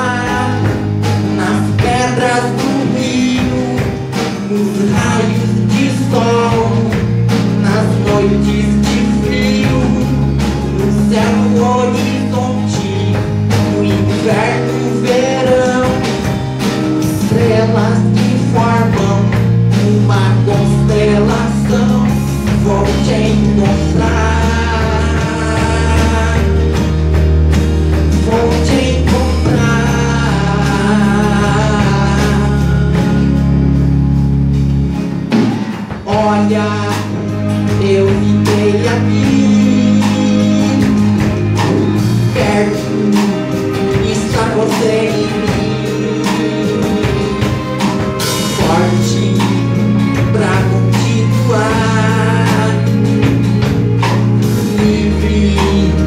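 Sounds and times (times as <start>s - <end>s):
wordless singing: 0.0s - 27.2s, 27.9s - 33.6s, 35.9s - 56.0s
acoustic guitar: 0.0s - 56.0s
low bass notes: 0.0s - 56.0s.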